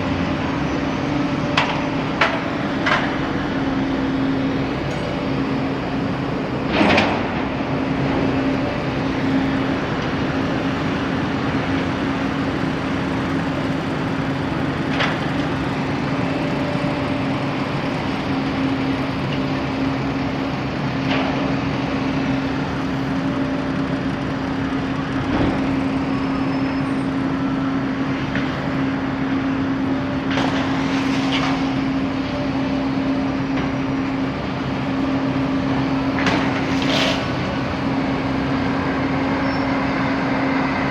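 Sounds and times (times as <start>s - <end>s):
bus engines idling: 0.0s - 40.9s.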